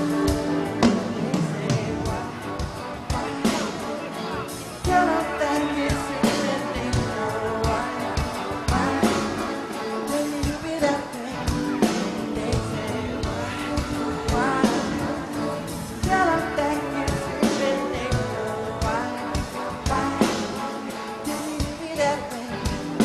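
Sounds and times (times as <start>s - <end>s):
live pop band: 0.0s - 23.0s
singer's voice: 0.0s - 23.0s
steady drum beat: 0.0s - 23.0s.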